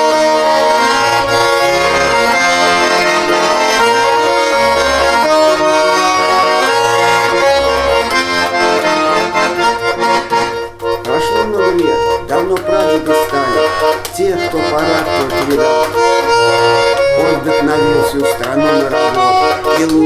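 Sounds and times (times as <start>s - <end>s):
accordion playing: 0.0s - 20.0s.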